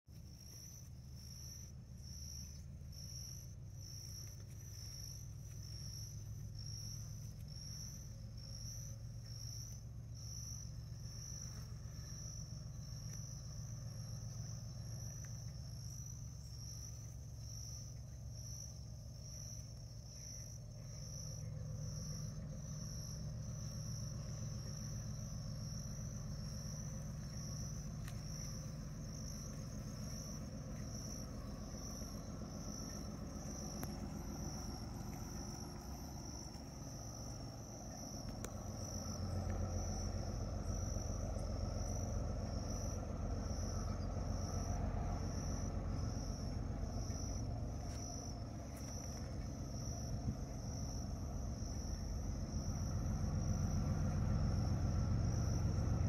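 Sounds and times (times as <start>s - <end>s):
low engine hum: 0.0s - 56.0s
insect chirping: 0.1s - 56.0s.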